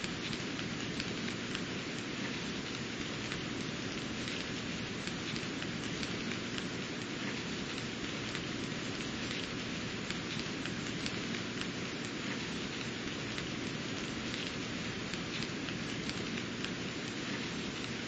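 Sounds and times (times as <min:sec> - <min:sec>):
rain falling on plants: 0:00.0 - 0:18.0.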